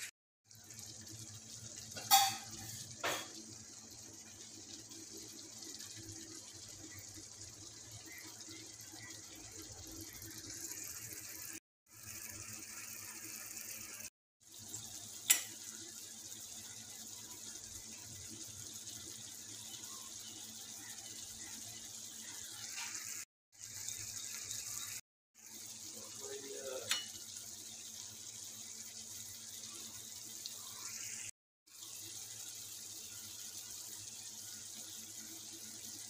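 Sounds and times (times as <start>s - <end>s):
chicken sizzling in oil: 0.0s - 36.0s.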